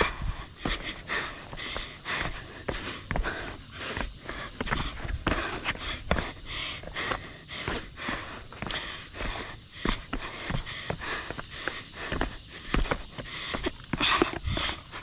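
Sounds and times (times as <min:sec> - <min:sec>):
heavy breathing: 0:00.0 - 0:15.0
shoes scuffing on rock and grit: 0:00.5 - 0:15.0.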